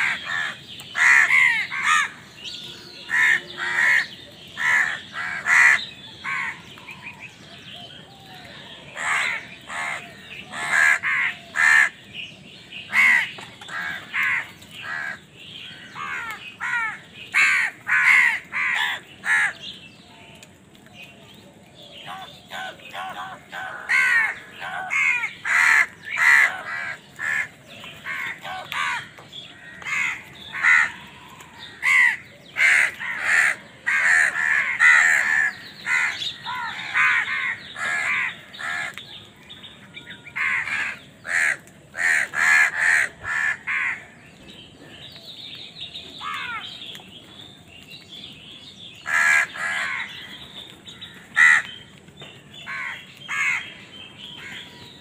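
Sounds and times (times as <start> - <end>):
crows cawing: 0.0 - 7.2, 7.8 - 12.1, 12.9 - 19.7, 22.0 - 44.2, 46.2 - 46.8, 49.0 - 51.9, 52.6 - 54.9.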